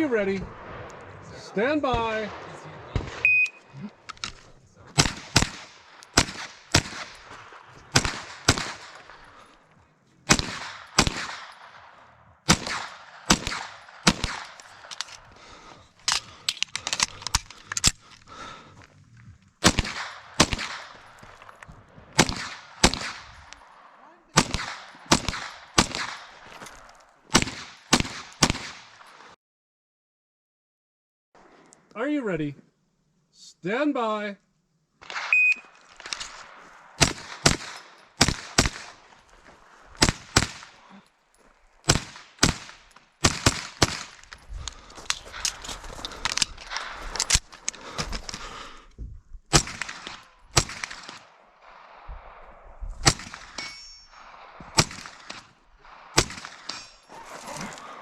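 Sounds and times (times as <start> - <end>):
rifle gunshots echoing: 0.0 - 18.0, 19.6 - 29.1, 35.0 - 41.0, 41.8 - 48.4, 49.5 - 58.0.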